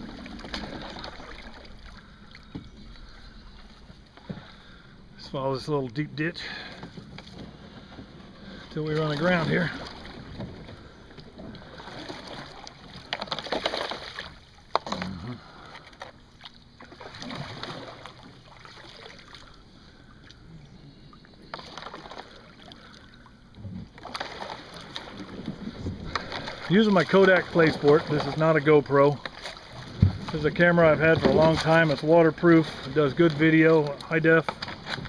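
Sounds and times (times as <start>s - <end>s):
paddle strokes swishing through water: 0.0s - 5.1s, 6.4s - 35.0s.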